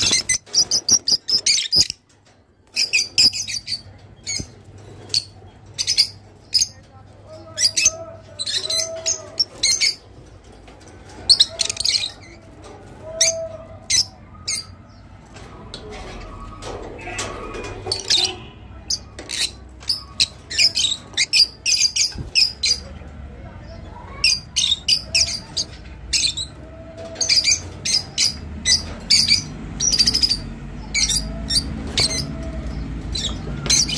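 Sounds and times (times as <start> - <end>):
lovebirds chirping and squawking: 0.0 - 33.9.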